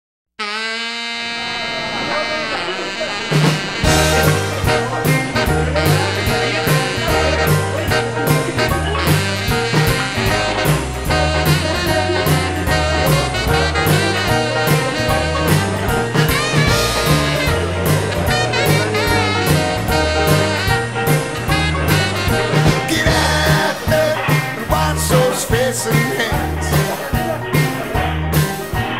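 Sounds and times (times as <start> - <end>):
swing jazz with brass and drums: 0.4 - 28.9.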